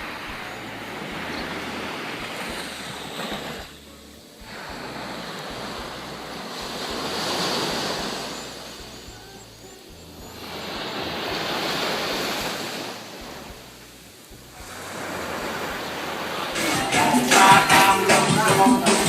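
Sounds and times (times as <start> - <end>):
surf washing onto beach: 0.0 - 3.8, 4.4 - 9.0, 10.4 - 13.6, 14.6 - 19.0.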